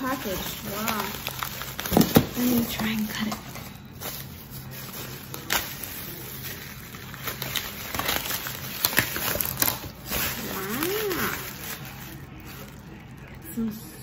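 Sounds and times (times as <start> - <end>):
plastic wrapping crinkling: 0.0 - 13.8.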